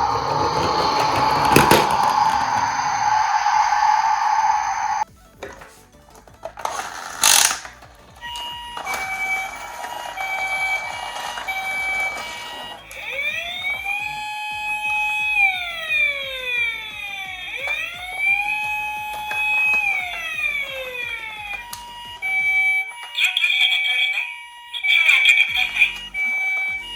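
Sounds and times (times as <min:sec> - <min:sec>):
toy electronic siren: 0:00.0 - 0:05.1, 0:06.5 - 0:26.9.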